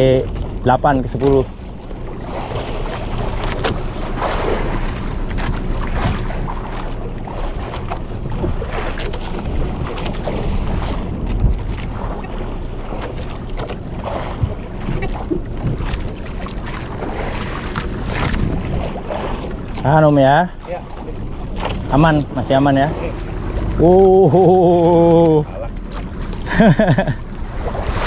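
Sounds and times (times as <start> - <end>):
water sloshing against boat hull: 0.0 - 28.0
wind buffeting microphone: 0.0 - 28.0.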